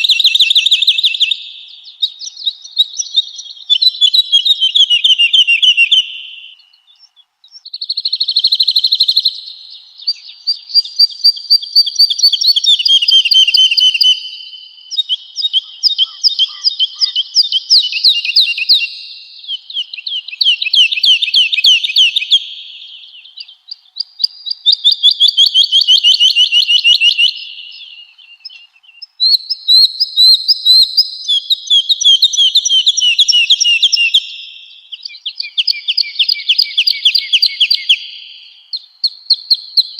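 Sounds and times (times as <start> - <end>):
woodlark singing: 0.0 - 39.9.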